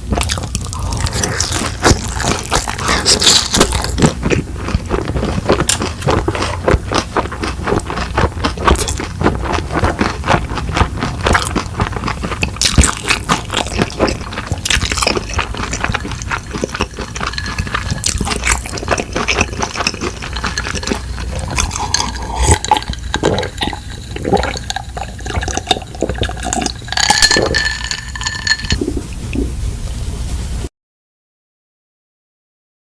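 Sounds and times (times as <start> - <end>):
chewing and slurping noodles: 0.0 - 29.6.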